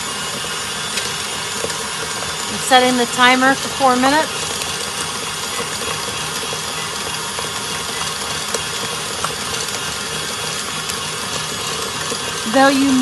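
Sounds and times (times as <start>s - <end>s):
stand mixer beating dough: 0.0s - 13.0s.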